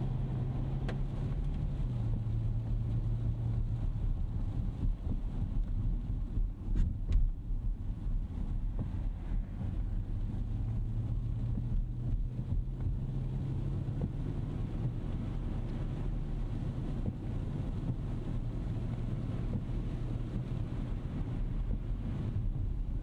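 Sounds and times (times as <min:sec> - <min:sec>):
faint engine hum: 0:00.0 - 0:23.0
road and tyre noise: 0:00.0 - 0:23.0.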